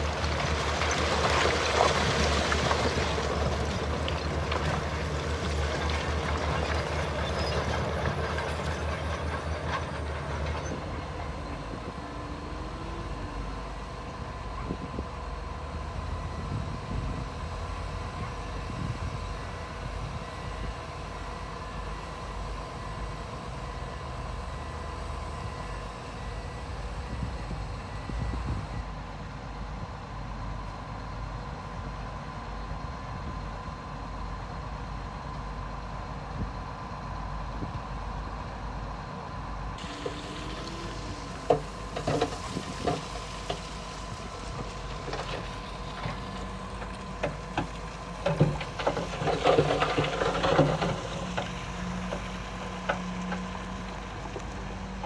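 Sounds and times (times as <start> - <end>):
construction machinery rumbling: 0.0 - 55.0.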